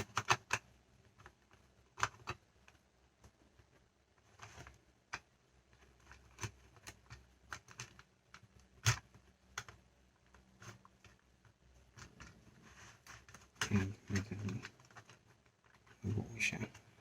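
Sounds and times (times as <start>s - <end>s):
plastic toys clicking and tapping: 0.0s - 16.9s.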